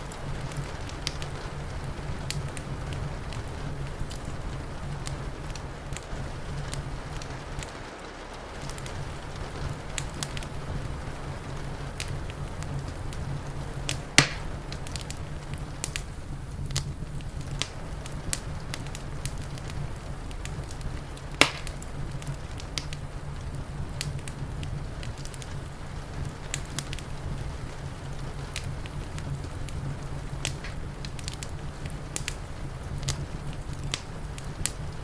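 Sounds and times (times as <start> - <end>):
low fire rumble: 0.0 - 35.0
sharp fire pops: 0.0 - 35.0
wood fire crackling: 0.0 - 35.0.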